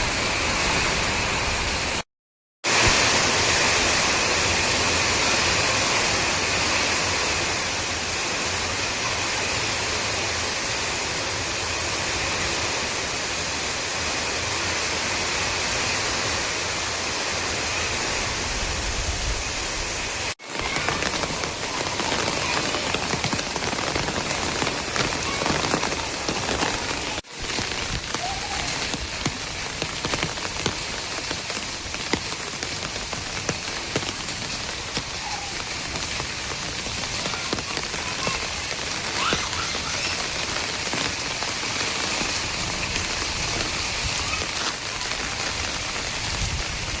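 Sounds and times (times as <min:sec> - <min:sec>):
rain on hard surfaces: 0:00.0 - 0:47.0.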